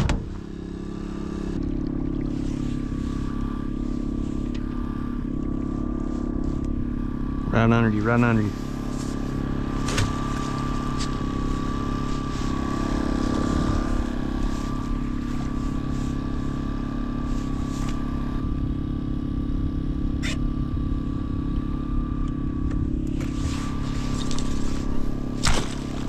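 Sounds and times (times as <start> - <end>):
boat engine drone: 0.0 - 26.0
thin steady whine: 0.0 - 26.0.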